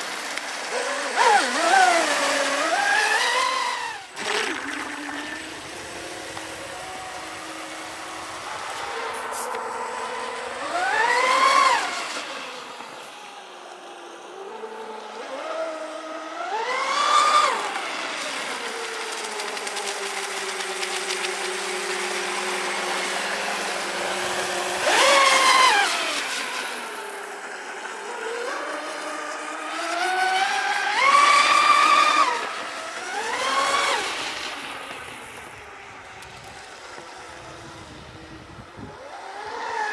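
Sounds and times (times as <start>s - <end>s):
toy speedboat motor: 0.0s - 39.9s.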